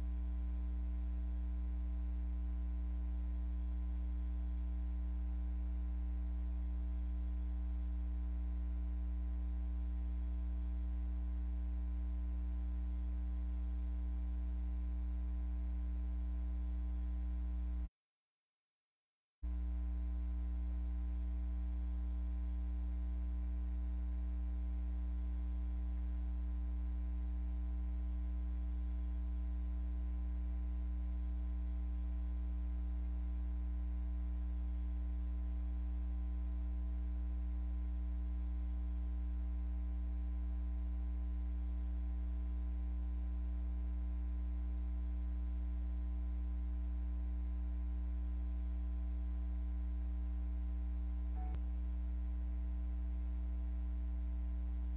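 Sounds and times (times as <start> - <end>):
electrical mains hum: 0.0 - 17.9, 19.5 - 54.9.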